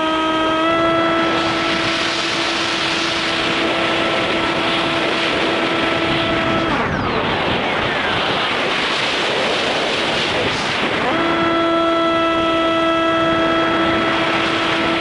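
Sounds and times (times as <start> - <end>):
model plane motor whining: 0.0 - 7.2, 9.4 - 15.0
wind rush on microphone: 0.0 - 15.0.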